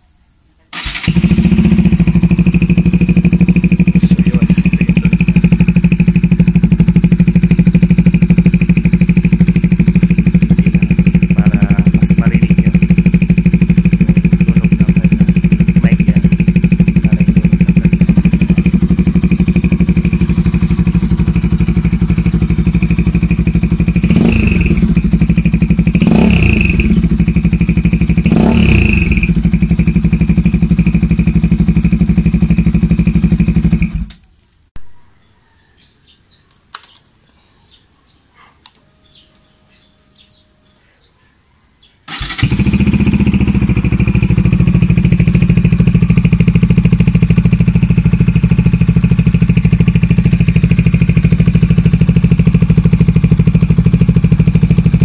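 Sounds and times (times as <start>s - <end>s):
motorcycle engine idling: 0.8s - 34.1s, 42.1s - 55.0s.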